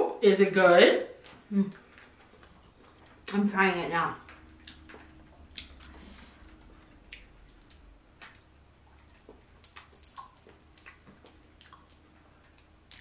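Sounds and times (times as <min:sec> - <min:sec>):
wet chewing and lip smacks: 0:01.2 - 0:03.4, 0:04.2 - 0:13.0.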